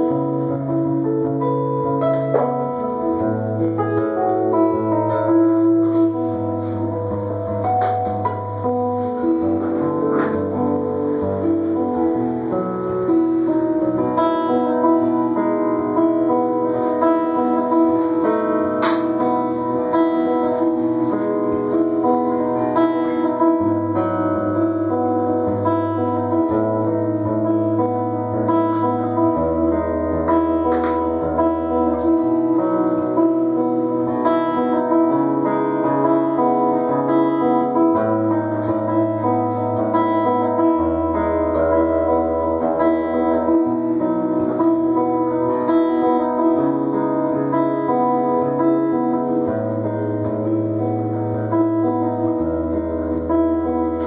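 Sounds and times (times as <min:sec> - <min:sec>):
fingerpicked acoustic guitar: 0:00.0 - 0:54.0.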